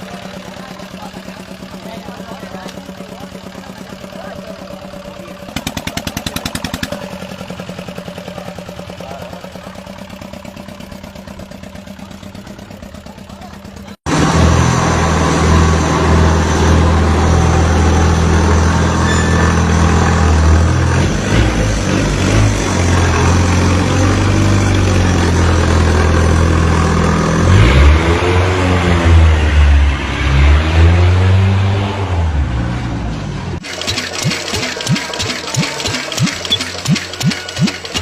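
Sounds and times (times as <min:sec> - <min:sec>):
loud motorcycle engine revving: 0:00.0 - 0:32.9, 0:33.5 - 0:38.0.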